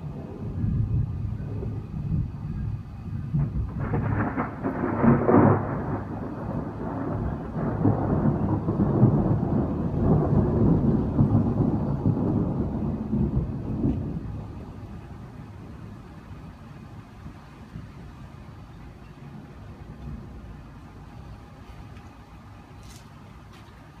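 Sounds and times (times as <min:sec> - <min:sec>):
thunder peal and rumble: 0:00.0 - 0:21.9.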